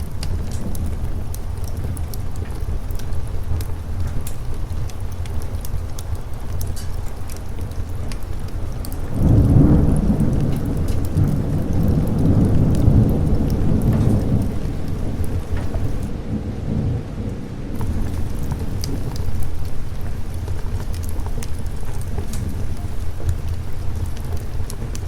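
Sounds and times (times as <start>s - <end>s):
fireplace crackles: 0.0s - 25.0s
rolling thunder: 0.0s - 25.0s
steady rain: 0.0s - 25.0s.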